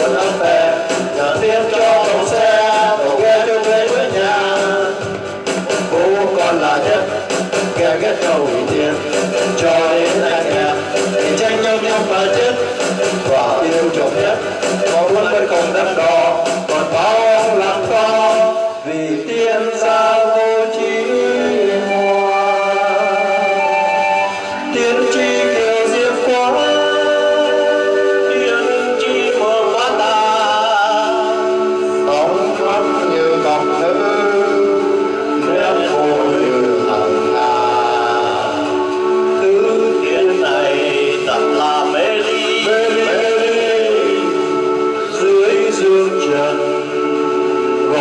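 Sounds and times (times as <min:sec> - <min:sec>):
group singing long notes: 0:00.0 - 0:48.0
instrumental accompaniment: 0:00.0 - 0:48.0.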